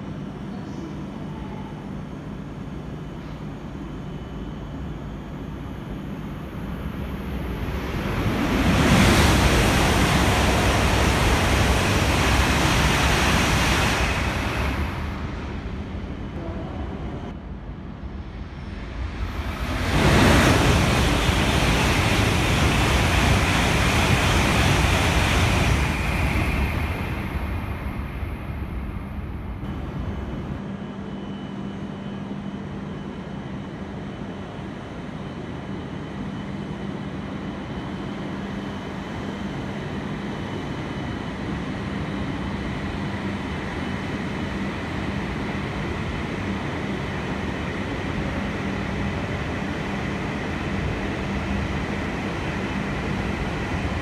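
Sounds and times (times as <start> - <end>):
faint hum: 0.0 - 54.0
high-speed trains rushing past: 3.7 - 54.0.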